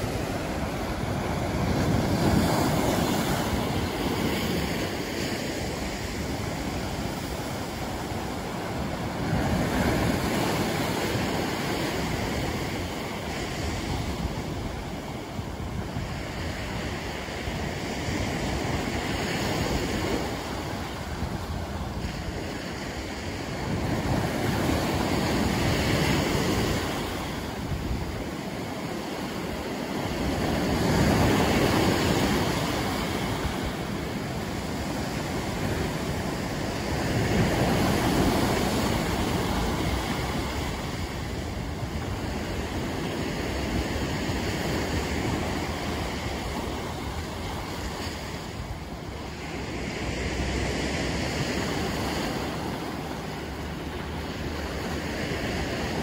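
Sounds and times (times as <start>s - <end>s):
sea waves breaking on rocks: 0.0s - 56.0s
surf washing up beach: 0.0s - 56.0s.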